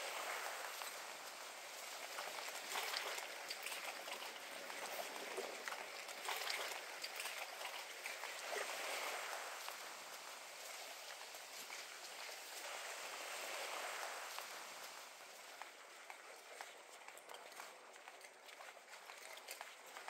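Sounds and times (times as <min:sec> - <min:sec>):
water and breeze hiss: 0:00.0 - 0:20.0.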